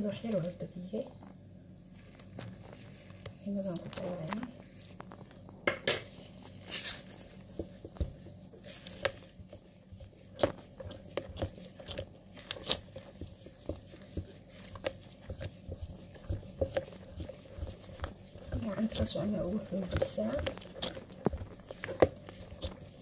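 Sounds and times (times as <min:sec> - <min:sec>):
batter stirred by hand in bowl: 0:00.0 - 0:23.0.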